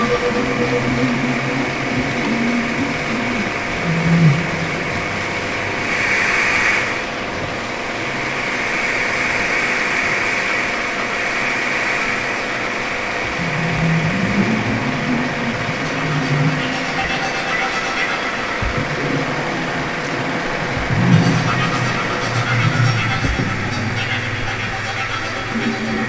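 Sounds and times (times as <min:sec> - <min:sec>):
mechanical whirring with hum: 0:00.0 - 0:26.0.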